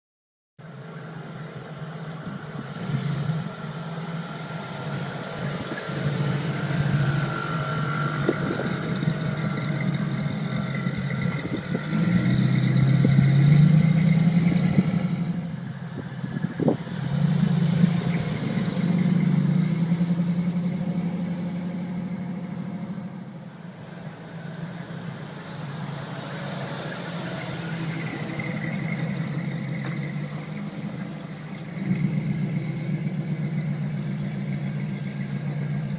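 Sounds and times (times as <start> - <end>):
truck engine running: 0.6 - 35.9.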